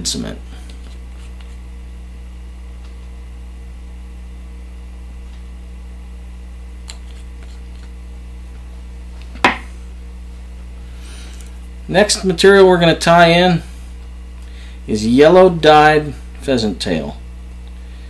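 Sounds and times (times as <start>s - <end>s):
low mains hum: 0.0s - 18.0s.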